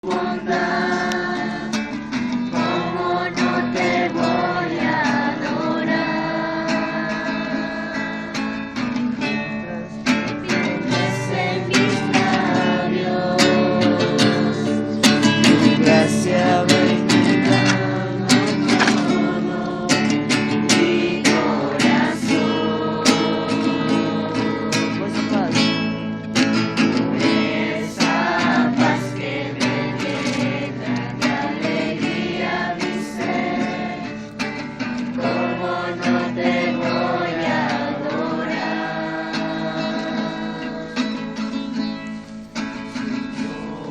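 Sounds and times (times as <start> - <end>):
group of voices singing: 0.0 - 43.9
strummed acoustic guitar: 0.0 - 43.9.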